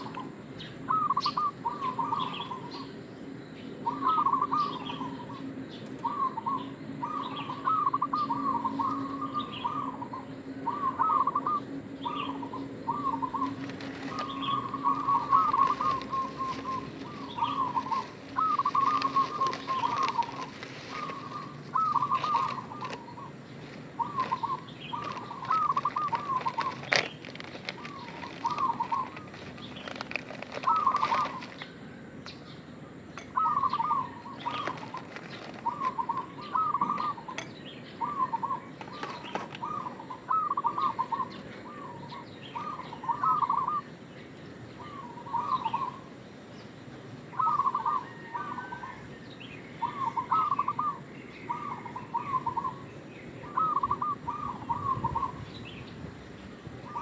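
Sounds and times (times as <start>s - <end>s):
dove cooing: 0.0s - 3.0s, 3.8s - 32.1s, 33.1s - 46.2s, 47.3s - 55.9s, 56.8s - 57.0s.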